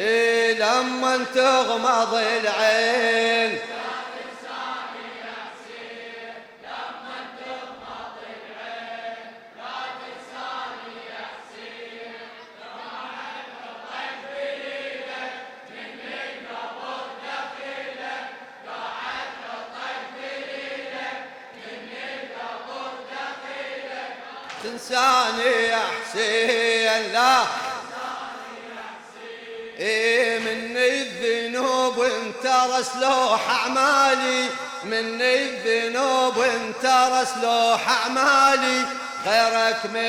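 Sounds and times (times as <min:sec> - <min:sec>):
crowd chanting in chorus: 0:00.0 - 0:40.0.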